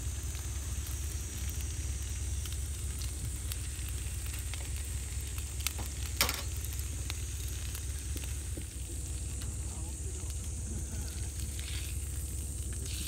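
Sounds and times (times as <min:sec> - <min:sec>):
fish sizzling in a skillet: 0:00.0 - 0:13.0.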